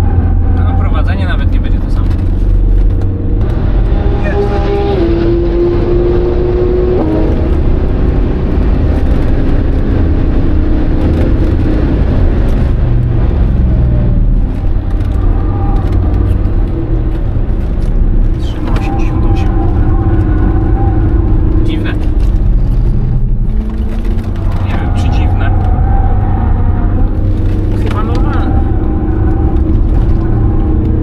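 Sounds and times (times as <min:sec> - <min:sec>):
car engine drone: 0:00.0 - 0:31.0
road and wind noise: 0:00.0 - 0:31.0.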